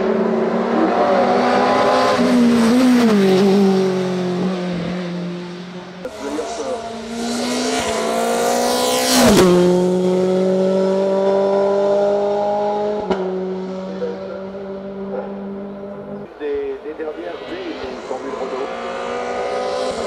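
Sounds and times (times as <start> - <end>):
racing car engine at full throttle: 0.0 - 20.0.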